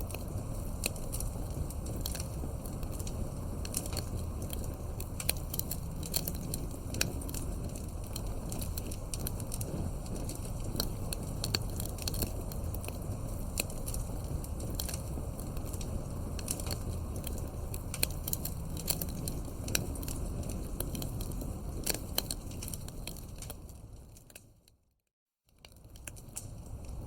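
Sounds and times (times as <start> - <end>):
burning logs popping and snapping: 0.0 - 24.6, 25.5 - 27.0
low rumble of flames: 0.0 - 24.8, 25.5 - 27.0.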